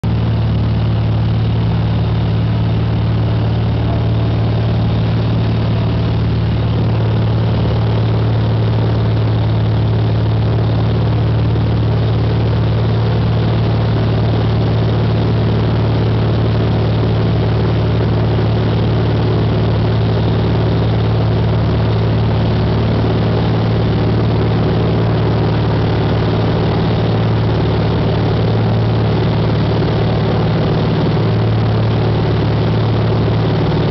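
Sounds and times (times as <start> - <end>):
light airplane engine and propeller droning: 0.0 - 33.9.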